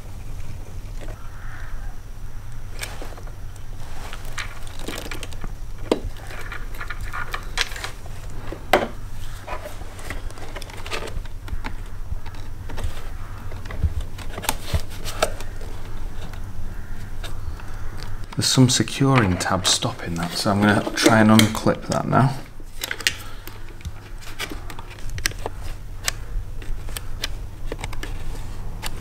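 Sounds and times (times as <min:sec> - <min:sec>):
steady low hum: 0:00.0 - 0:29.0
clicks and rustles of plastic wiring: 0:02.5 - 0:29.0.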